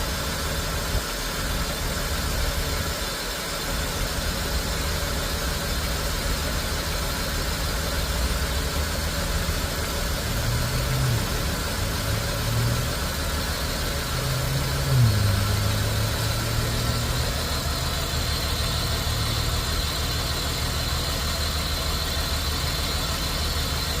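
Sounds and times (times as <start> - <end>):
car engine idling roughly: 0.0 - 24.0.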